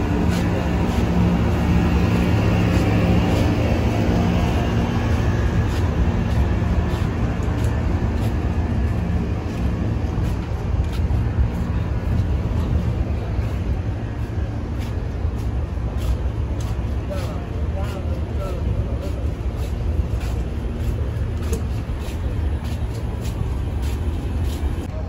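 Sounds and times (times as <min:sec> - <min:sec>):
faint footsteps on paving: 0:00.0 - 0:24.9
air conditioning units humming: 0:00.0 - 0:25.0.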